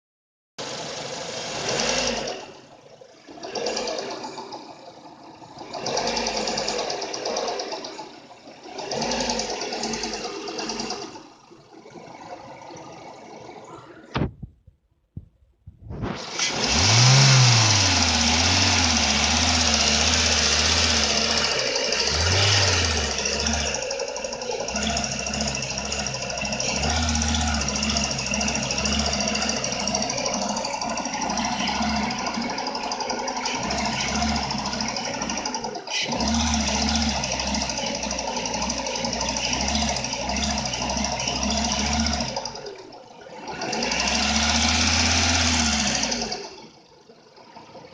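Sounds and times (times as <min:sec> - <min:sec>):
car engine revving: 0:00.6 - 0:02.7, 0:03.3 - 0:11.3, 0:15.9 - 0:46.7
engine knocking: 0:00.6 - 0:14.6, 0:15.2 - 0:47.9.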